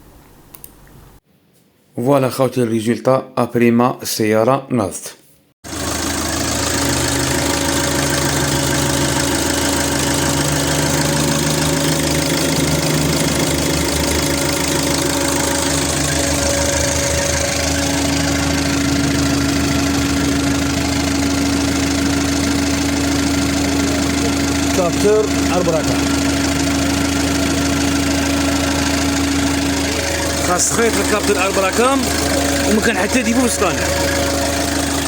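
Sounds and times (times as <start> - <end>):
diesel engine idling: 5.7 - 35.0.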